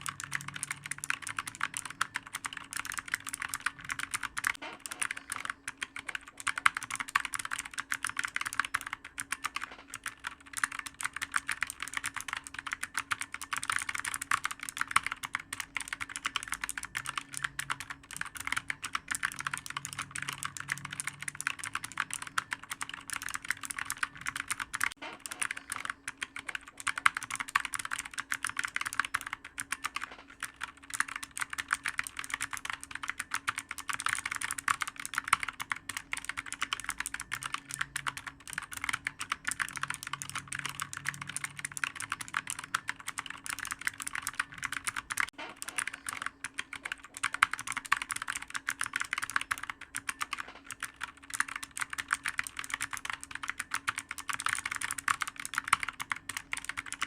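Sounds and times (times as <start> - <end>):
fast typing on clicky keyboard: 0.0 - 57.0.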